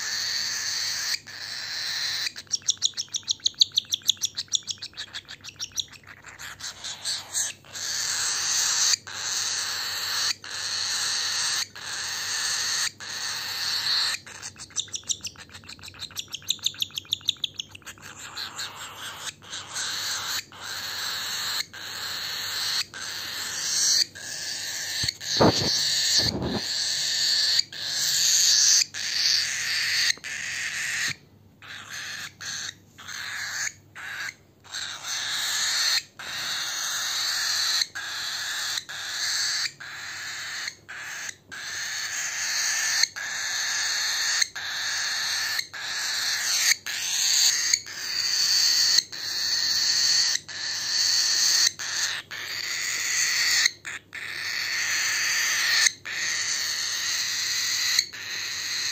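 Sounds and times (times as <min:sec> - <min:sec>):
cockatiel raspy begging call: 0:00.0 - 0:16.0, 0:17.8 - 0:58.9.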